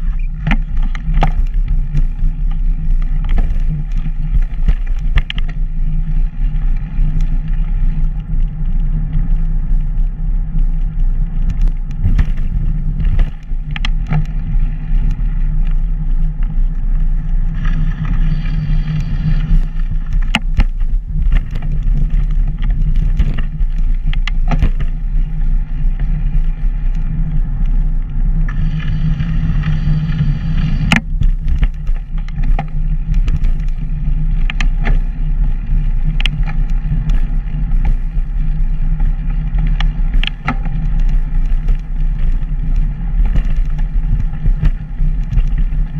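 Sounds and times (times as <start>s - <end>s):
light clicks and knocks from bumps: 0.0s - 27.8s, 30.8s - 45.9s
pavement vibration rumble: 0.0s - 45.9s
wind buffeting camera: 0.0s - 45.9s.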